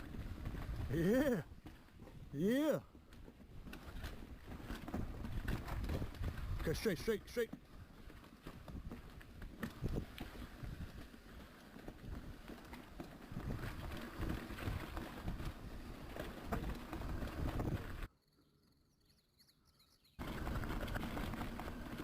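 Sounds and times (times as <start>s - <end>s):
mountain bike rattling on trail: 0.0s - 18.1s, 20.0s - 22.0s.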